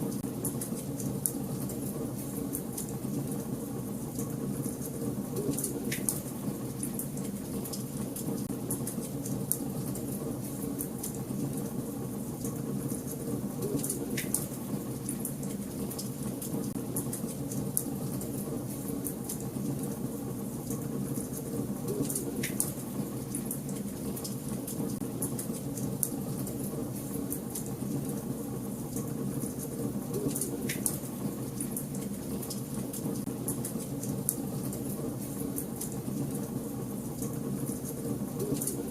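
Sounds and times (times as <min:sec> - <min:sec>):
small fire crackles: 0:00.0 - 0:38.9.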